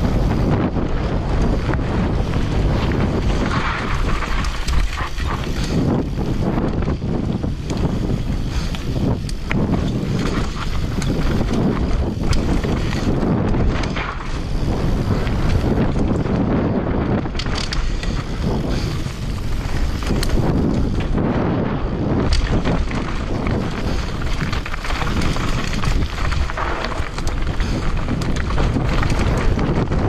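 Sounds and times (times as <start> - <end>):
bike clattering over bumps: 0.0 - 30.0
tyres rolling over dirt and rock: 0.0 - 30.0
wind rushing over microphone: 0.0 - 30.0.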